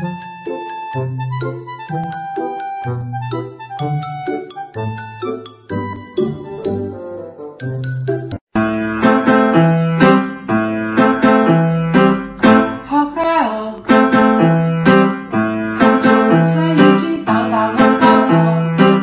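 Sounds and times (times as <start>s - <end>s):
keyboard chords: 0.0s - 19.0s.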